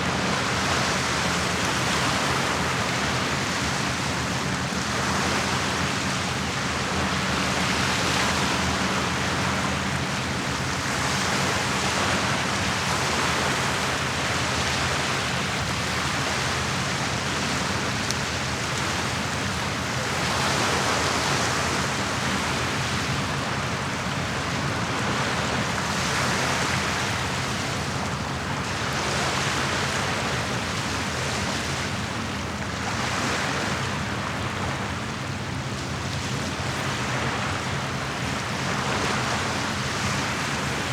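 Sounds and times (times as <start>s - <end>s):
waves washing against shore: 0.0s - 40.9s.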